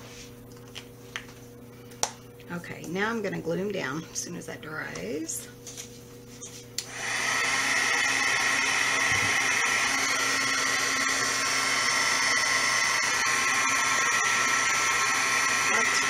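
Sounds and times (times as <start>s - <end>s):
heat tool fan whirring: 0.0s - 16.0s.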